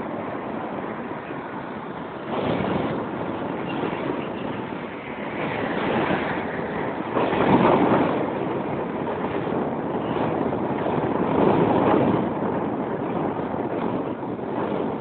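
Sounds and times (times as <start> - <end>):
tram passing: 0.0 - 15.0
wind on microphone: 0.0 - 15.0.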